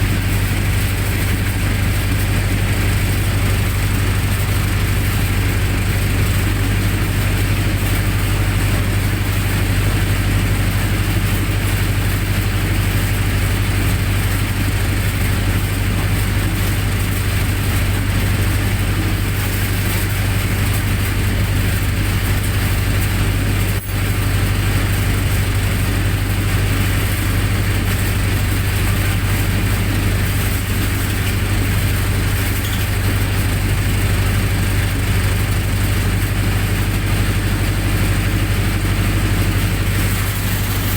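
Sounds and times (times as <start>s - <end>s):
generator engine running: 0.0s - 40.9s.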